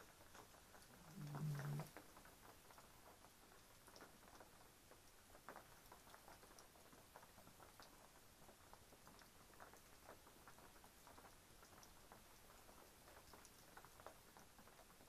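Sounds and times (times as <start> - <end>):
raindrops dripping: 0.0 - 15.0.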